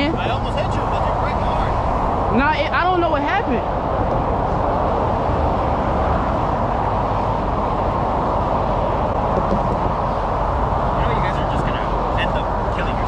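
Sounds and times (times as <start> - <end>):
highway traffic roar: 0.0 - 13.0.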